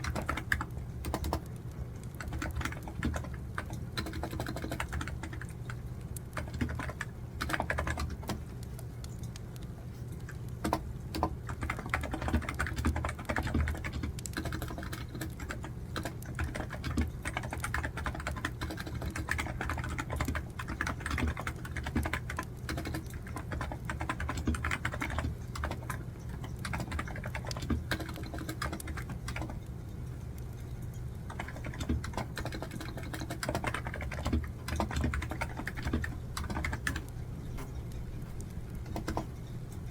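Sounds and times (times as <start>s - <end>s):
computer keyboard typing: 0.0s - 29.7s, 30.5s - 39.5s
steady low hum: 0.0s - 39.9s.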